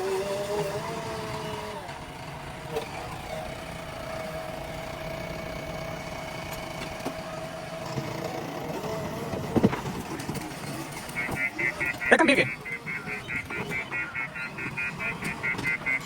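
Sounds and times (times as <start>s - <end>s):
diesel engine whining: 0.0s - 16.0s.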